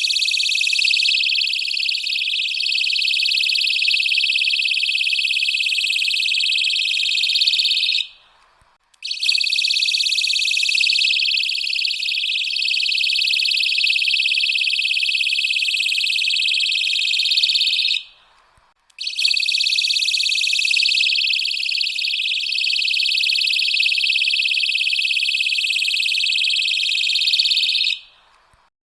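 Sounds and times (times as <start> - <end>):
high-pitched warbling safety alarm: 0.0 - 8.1, 9.0 - 18.1, 19.0 - 28.0.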